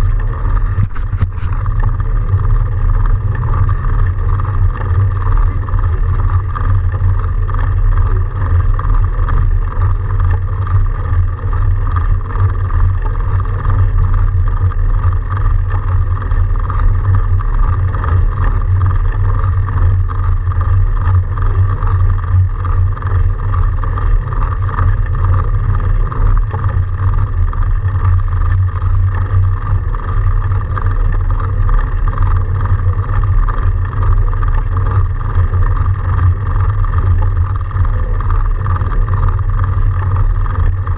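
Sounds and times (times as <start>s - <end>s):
bike tyres rumbling through snow: 0.0s - 40.9s
wind on microphone: 0.0s - 40.9s.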